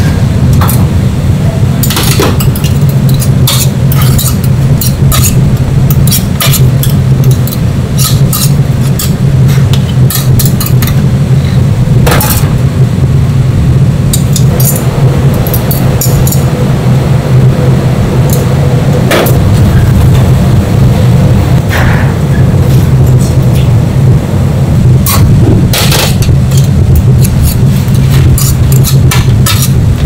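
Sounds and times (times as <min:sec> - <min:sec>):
loud low machine hum: 0:00.0 - 0:30.0.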